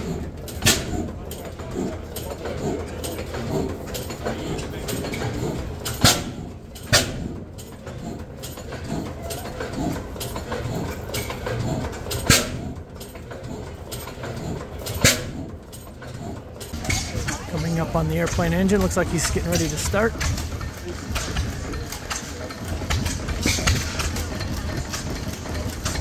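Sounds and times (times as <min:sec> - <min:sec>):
stationary engine clatter: 0:00.0 - 0:26.0.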